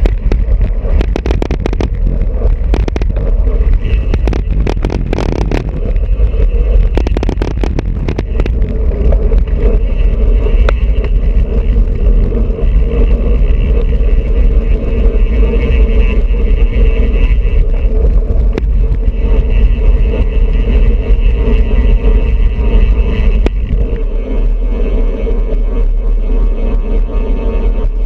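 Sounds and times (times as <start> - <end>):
road rumble: 0.0 - 28.0
wind buffeting microphone: 0.0 - 28.0.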